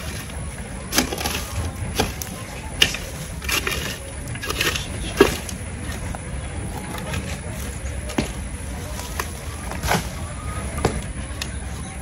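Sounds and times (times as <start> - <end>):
dry fronds and brush crunching: 0.0 - 12.0.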